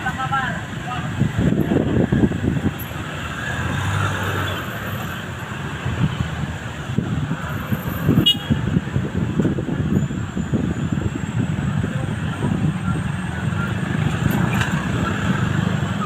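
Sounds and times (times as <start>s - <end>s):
road traffic engines rumbling: 0.0s - 16.0s.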